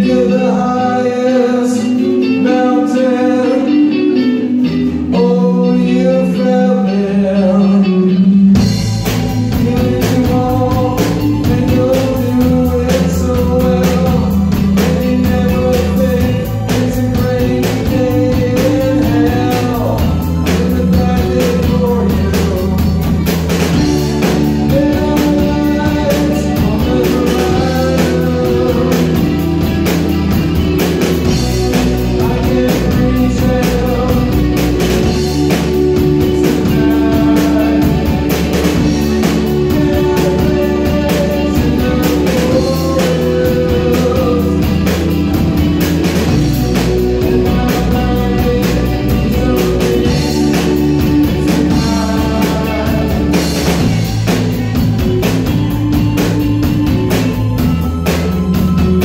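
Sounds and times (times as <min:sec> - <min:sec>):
bass guitar: 0:00.0 - 0:59.0
electric guitars: 0:00.0 - 0:59.0
keyboard: 0:00.0 - 0:59.0
man singing: 0:00.0 - 0:59.0
drum kit: 0:08.2 - 0:59.0.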